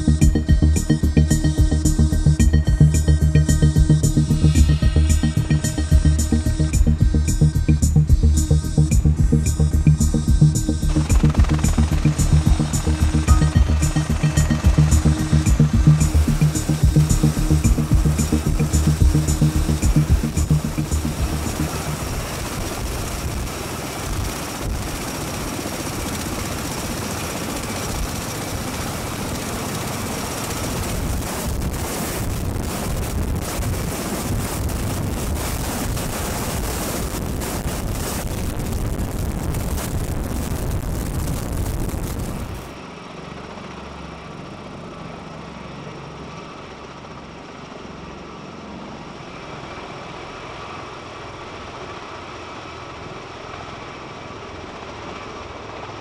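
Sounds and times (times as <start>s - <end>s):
steady rotor sound: 0.0s - 56.0s
tilt-rotor aircraft engines and rotors: 0.0s - 56.0s.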